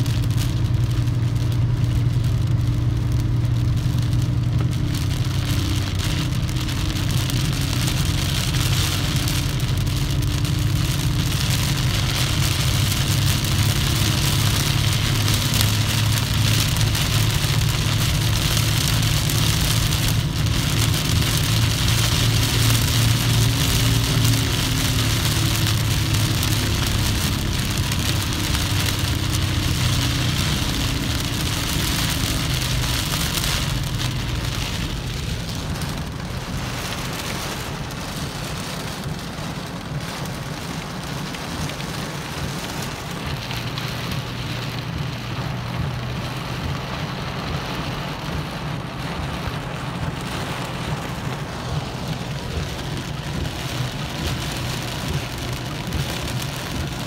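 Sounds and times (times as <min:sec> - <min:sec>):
engine humming: 0:00.0 - 0:57.0
rain pelting a vehicle: 0:00.0 - 0:57.0
road noise: 0:00.0 - 0:57.0.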